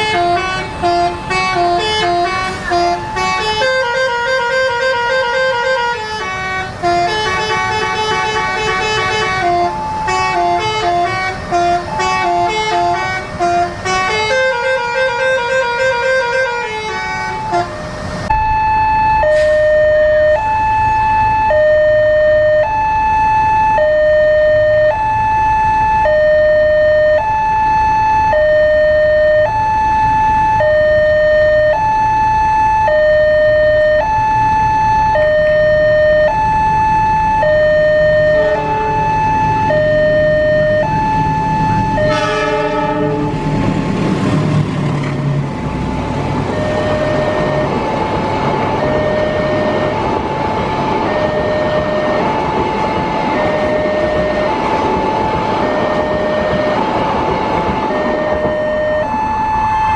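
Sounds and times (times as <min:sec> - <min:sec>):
bus musical horn tune: 0:00.0 - 0:18.6, 0:19.2 - 0:43.8, 0:46.4 - 0:48.0, 0:48.8 - 0:50.1, 0:51.0 - 0:54.8, 0:55.6 - 0:57.0, 0:57.9 - 0:59.9
level-crossing alarm: 0:00.0 - 0:43.8, 0:46.3 - 0:59.9.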